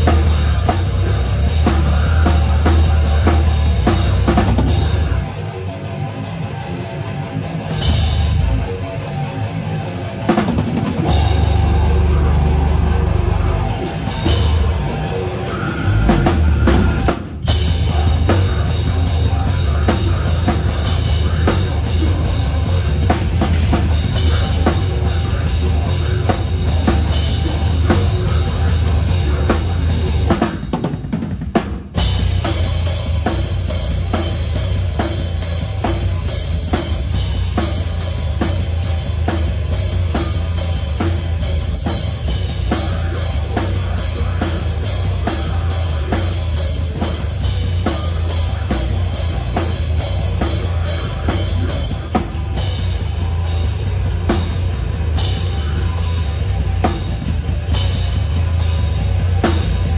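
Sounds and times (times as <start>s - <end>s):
drum kit beat: 0.0s - 59.9s
heavy bass: 0.0s - 59.9s
live rock band playing: 0.0s - 59.9s.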